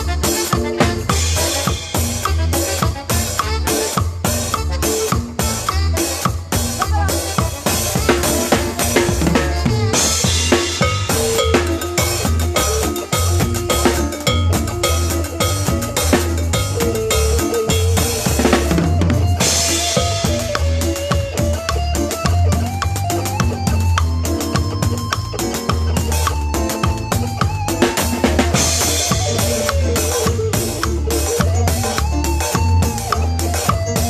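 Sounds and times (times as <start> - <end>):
drum kit beat: 0.0 - 34.0
live band playing: 0.0 - 34.0
pitched melody line: 0.0 - 34.0
sustained bass line: 0.0 - 34.0.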